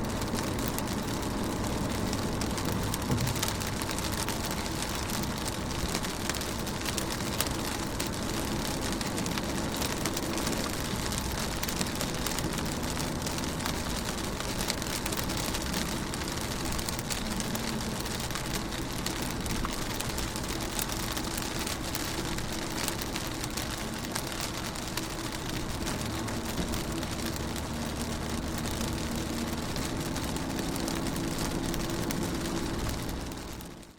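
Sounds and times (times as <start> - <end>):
rain on a car window: 0.0 - 33.9.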